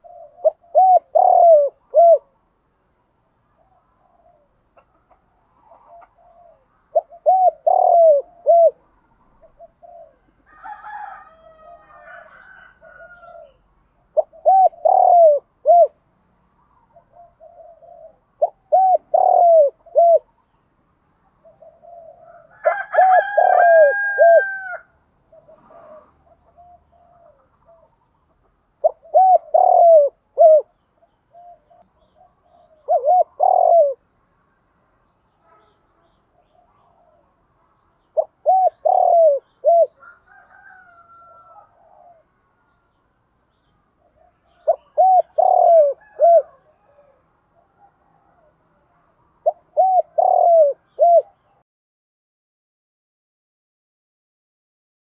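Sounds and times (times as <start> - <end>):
dove cooing: 0.0 - 2.4, 3.6 - 16.0, 16.6 - 20.4, 21.2 - 34.0, 36.4 - 42.3, 44.0 - 48.6, 49.4 - 51.6.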